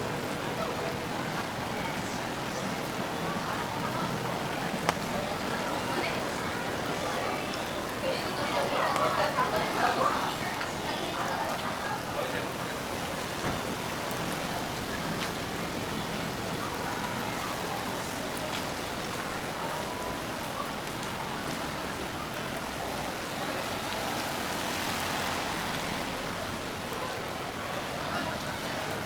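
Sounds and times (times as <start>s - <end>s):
steady rain on a street: 0.0s - 29.0s.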